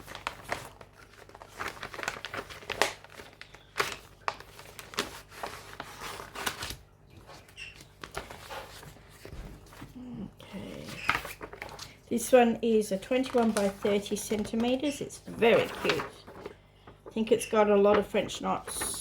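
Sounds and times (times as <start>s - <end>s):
plastic packaging crinkling: 0.0s - 9.3s, 10.7s - 12.1s, 12.9s - 19.0s.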